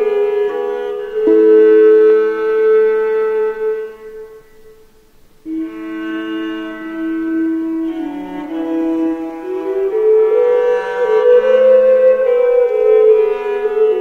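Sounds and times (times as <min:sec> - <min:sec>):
slow wind instrument music: 0:00.0 - 0:14.0.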